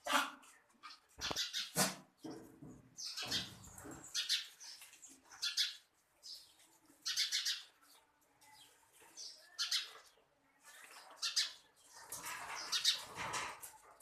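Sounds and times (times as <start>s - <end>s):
birds chirping: 0.9s - 13.5s.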